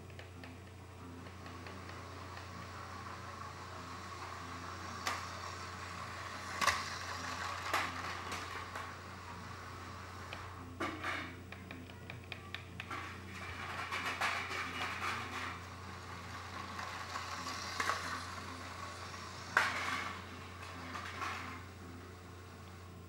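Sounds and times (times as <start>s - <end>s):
toy train motor hum: 0.0s - 23.0s
clicking and rattling on track: 1.2s - 9.0s, 10.3s - 21.6s.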